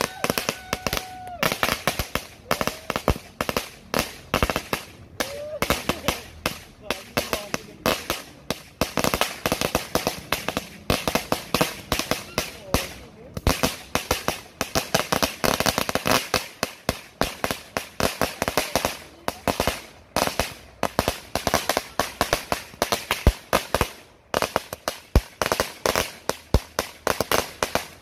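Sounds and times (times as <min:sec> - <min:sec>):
firecrackers banging: 0:00.0 - 0:28.0.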